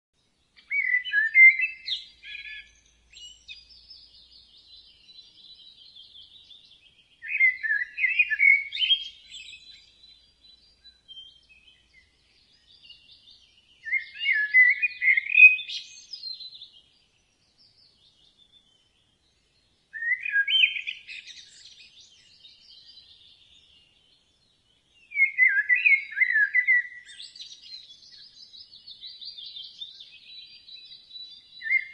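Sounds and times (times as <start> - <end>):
faint high bird chirping: 0.2 - 31.9
loud bird song phrase: 0.2 - 31.9.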